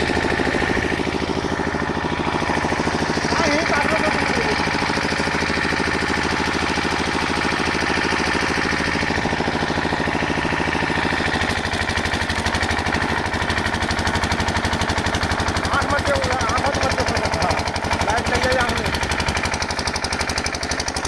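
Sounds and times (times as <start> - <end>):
engine running with knocking: 0.0 - 21.0.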